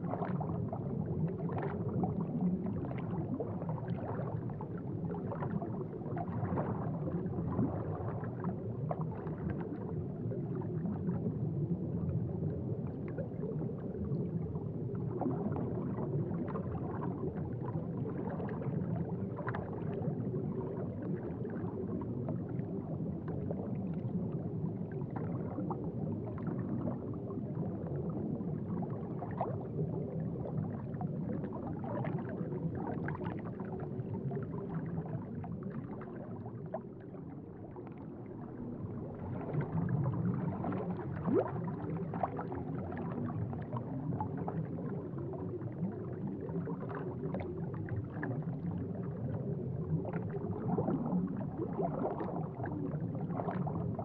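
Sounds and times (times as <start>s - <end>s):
aquarium water bubbling: 0.0s - 54.0s.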